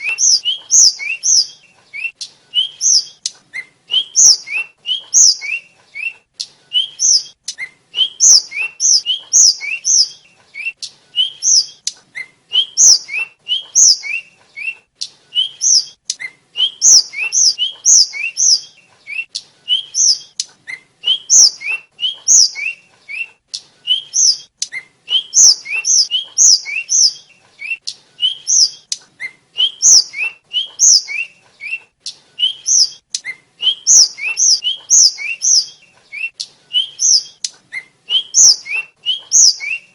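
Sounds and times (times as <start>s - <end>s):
bird whistled song: 0.0s - 39.9s.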